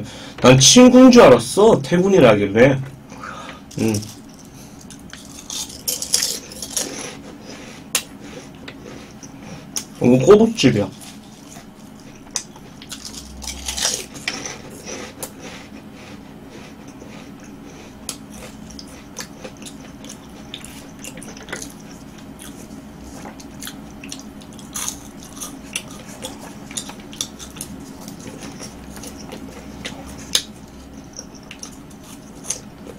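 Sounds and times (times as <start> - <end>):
crunchy snack chewing: 3.7 - 10.0, 10.9 - 15.8, 16.6 - 32.9.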